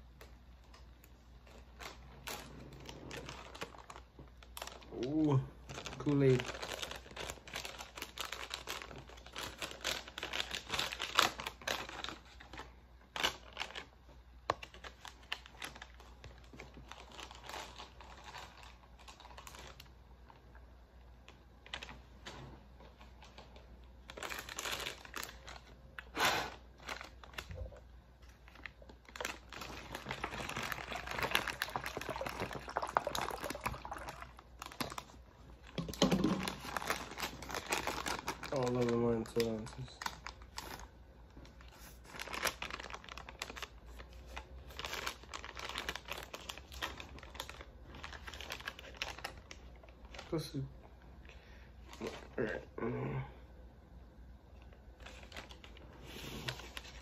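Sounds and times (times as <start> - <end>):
plastic packaging crinkling: 0.1 - 52.5, 54.6 - 57.0.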